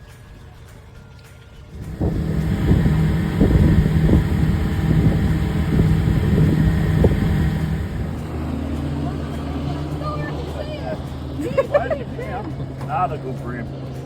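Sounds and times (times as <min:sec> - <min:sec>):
boat motor running: 0:00.6 - 0:14.0
wind buffeting microphone: 0:01.5 - 0:14.0.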